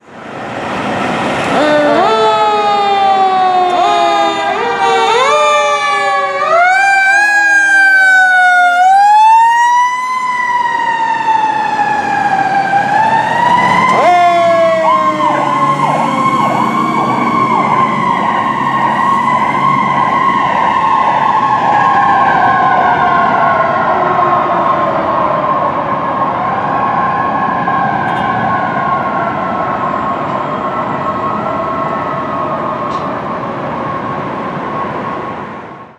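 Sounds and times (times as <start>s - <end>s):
fire truck sirens: 0.0s - 35.9s.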